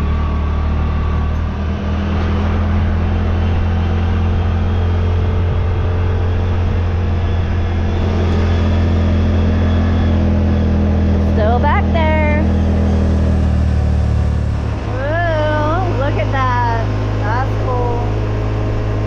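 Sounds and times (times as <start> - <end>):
drivetrain noise: 0.0 - 19.0
utility vehicle engine droning: 0.0 - 19.0.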